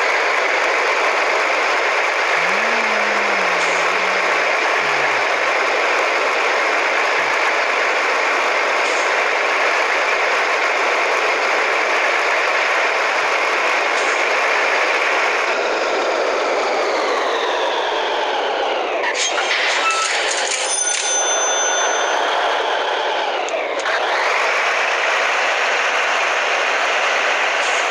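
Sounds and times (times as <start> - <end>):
loud diesel truck exhaust: 0.0 - 19.1, 22.3 - 27.9.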